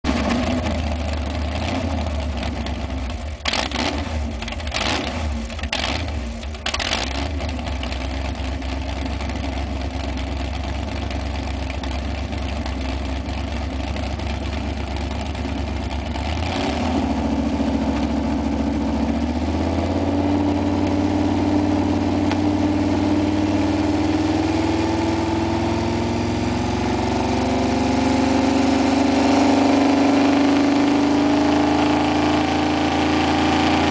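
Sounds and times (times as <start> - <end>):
car engine running and revving: 0.0 - 33.9.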